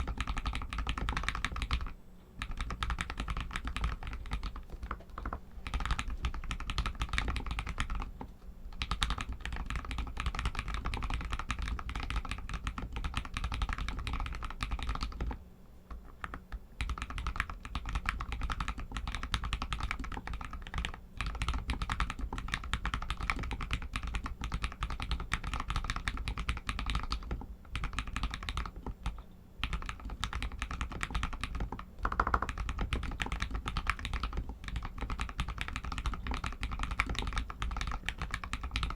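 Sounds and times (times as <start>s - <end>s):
mechanical keyboard typing: 0.0s - 15.4s, 16.0s - 38.9s.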